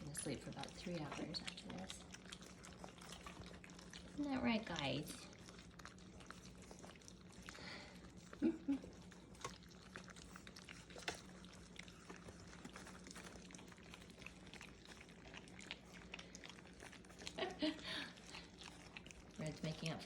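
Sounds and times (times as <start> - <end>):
puppies lapping food: 0.0 - 20.0.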